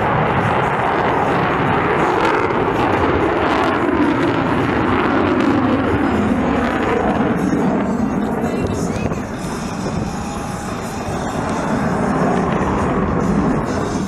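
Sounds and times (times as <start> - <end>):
jet aircraft flying overhead: 0.0 - 14.0.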